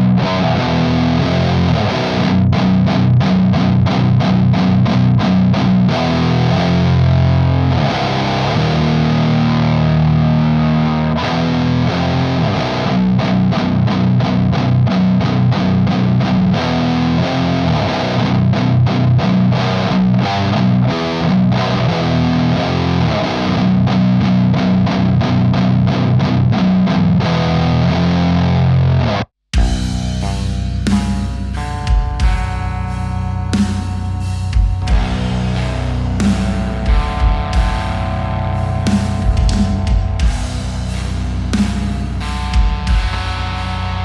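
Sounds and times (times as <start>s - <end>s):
distorted electric guitar riff: 0.0s - 44.0s.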